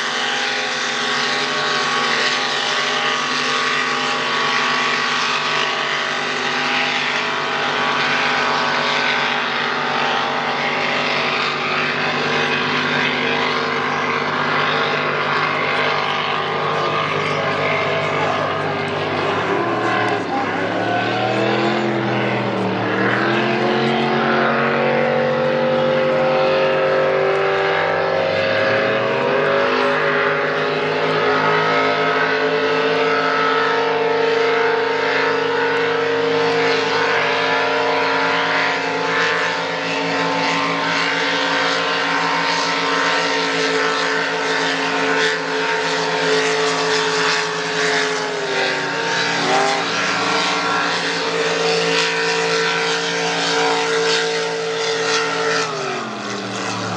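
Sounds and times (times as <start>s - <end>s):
powerboat engines high-revving drone: 0.0s - 56.9s.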